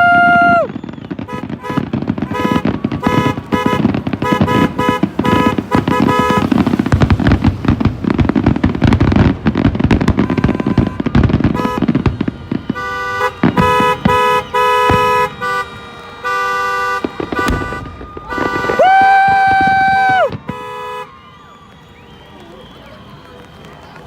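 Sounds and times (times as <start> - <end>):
fireworks crackling and popping: 0.0 - 24.0
car horns honking: 1.1 - 8.4, 9.2 - 21.3.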